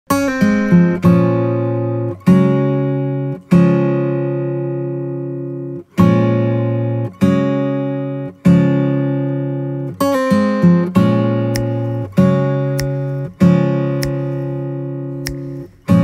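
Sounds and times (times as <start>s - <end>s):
strummed acoustic guitar chords: 0.1s - 16.0s.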